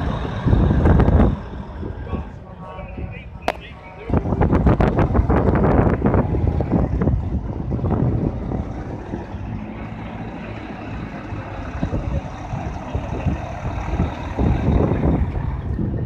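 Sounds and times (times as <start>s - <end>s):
truck diesel engine driving past: 0.0s - 16.0s.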